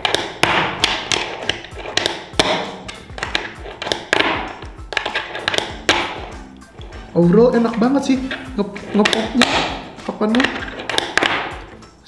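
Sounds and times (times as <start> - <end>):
fingerboard clacking on tabletop: 0.0 - 7.1, 8.2 - 11.8.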